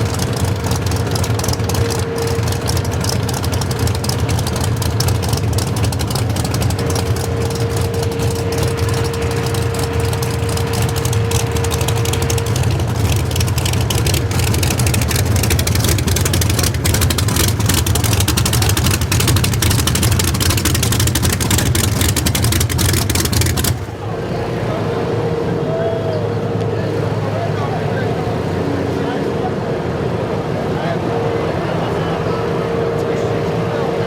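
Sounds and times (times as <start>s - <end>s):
drag engine rumbling: 0.0s - 34.0s.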